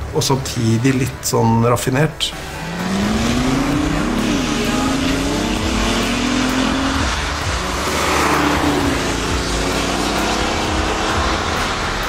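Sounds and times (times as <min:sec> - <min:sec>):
rushing noise: 0:02.3 - 0:12.0
sports car engine accelerating: 0:02.3 - 0:12.0.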